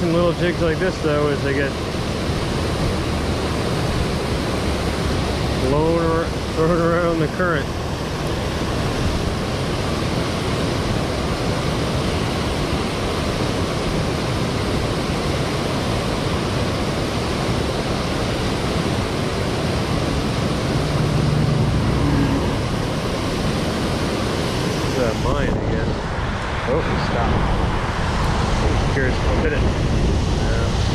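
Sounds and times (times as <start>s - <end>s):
water rushing over spillway: 0.0s - 30.9s.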